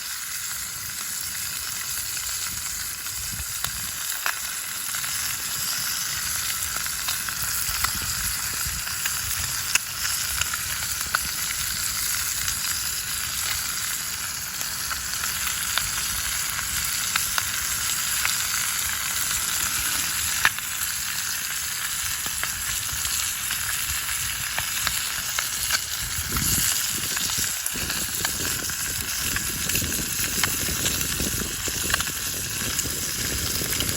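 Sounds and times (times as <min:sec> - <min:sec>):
food sizzling in a pan: 0:00.0 - 0:33.9.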